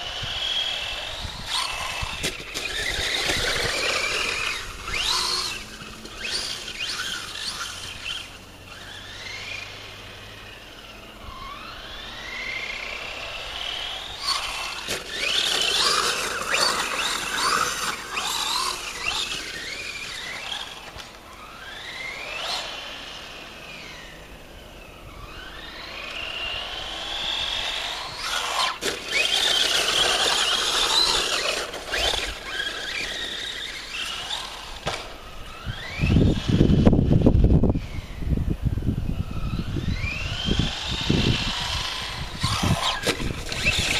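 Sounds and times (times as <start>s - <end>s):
rc truck motor whine: 0.0s - 43.9s.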